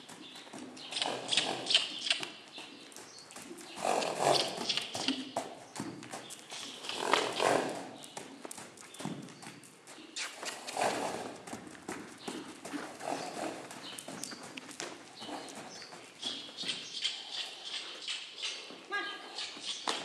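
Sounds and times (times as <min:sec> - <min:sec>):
hooves trotting on dirt: 0:00.0 - 0:20.0.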